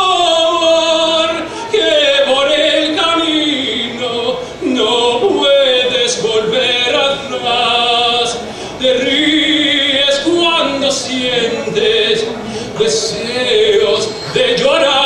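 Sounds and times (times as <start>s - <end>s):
man singing operatic ballad: 0.0s - 15.0s.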